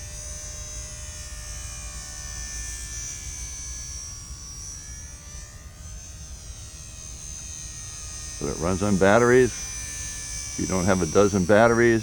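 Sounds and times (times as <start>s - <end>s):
model airplane motor buzzing: 0.0s - 12.0s.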